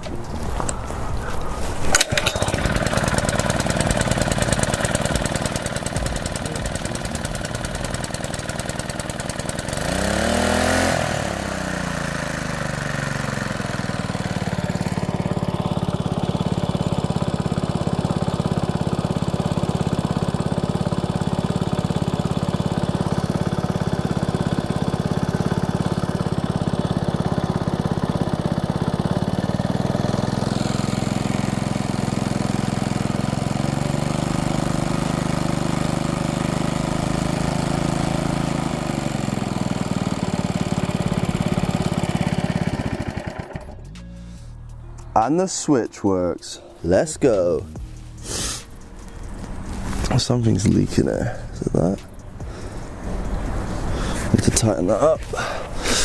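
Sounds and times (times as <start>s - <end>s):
small engine revving and idling: 0.0s - 56.0s.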